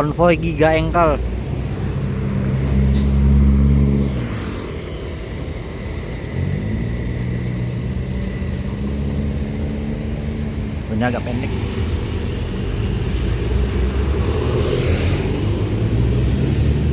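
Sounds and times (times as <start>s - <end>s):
trucks passing: 0.0s - 16.9s.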